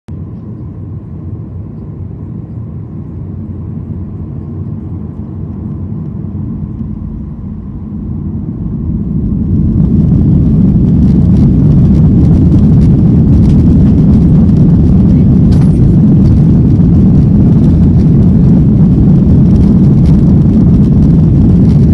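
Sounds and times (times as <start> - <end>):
jet engines spooling up: 3.7 - 21.9.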